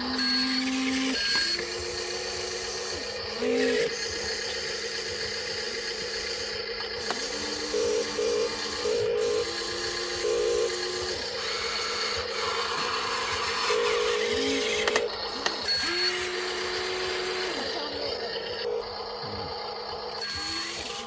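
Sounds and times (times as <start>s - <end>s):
small electric motors whining: 0.0s - 21.0s
steady hum: 0.0s - 21.0s.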